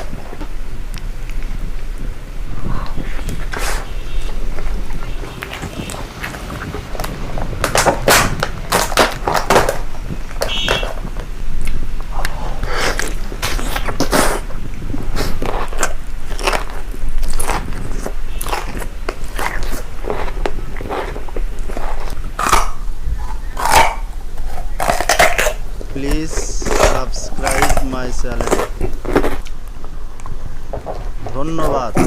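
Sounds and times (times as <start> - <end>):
person biting and chewing food: 0.0 - 31.0.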